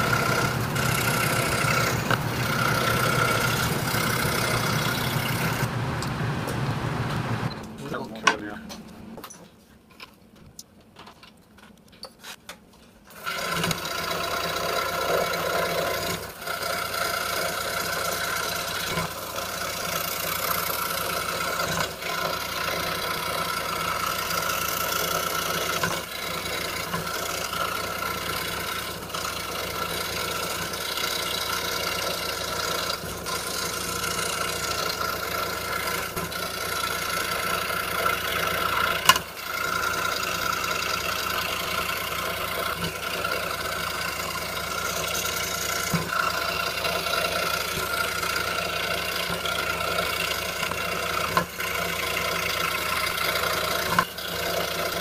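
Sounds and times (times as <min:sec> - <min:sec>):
scroll saw cutting plywood: 0:00.0 - 0:06.6, 0:13.1 - 0:55.0.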